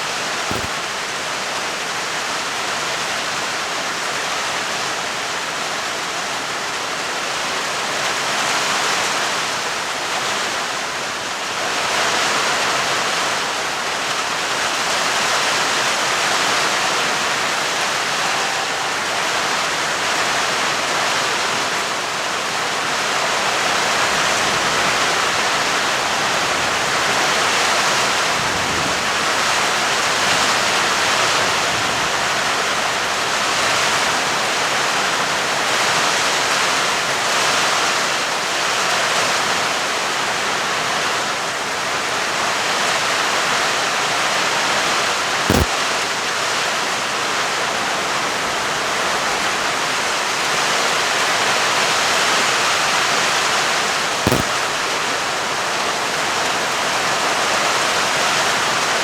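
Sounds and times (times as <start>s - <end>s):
heavy rain falling: 0.5s - 37.7s, 47.4s - 59.0s.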